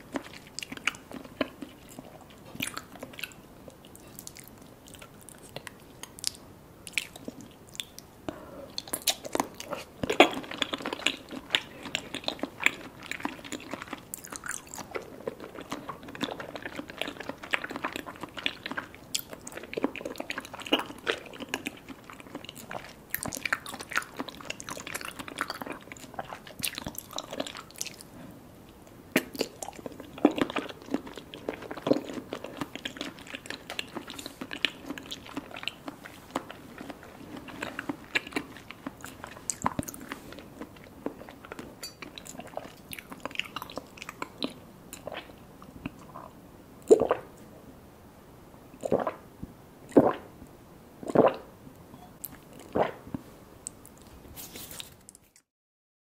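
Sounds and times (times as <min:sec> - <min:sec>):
wet chewing mouth sounds: 0:00.0 - 0:28.4, 0:29.1 - 0:46.3, 0:49.9 - 0:50.2.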